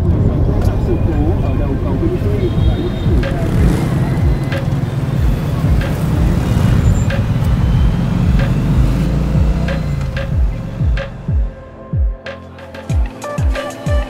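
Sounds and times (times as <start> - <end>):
background music with sliding bass: 0.0 - 14.0.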